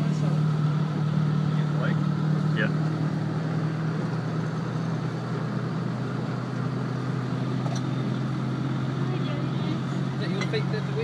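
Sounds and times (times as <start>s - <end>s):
engine humming at low revs: 0.0s - 11.0s.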